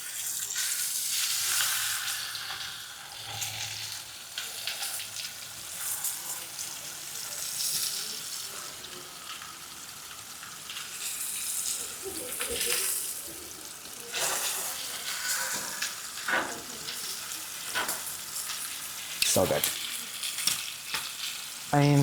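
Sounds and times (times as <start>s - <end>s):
chicken sizzling in pan: 0.0s - 22.0s.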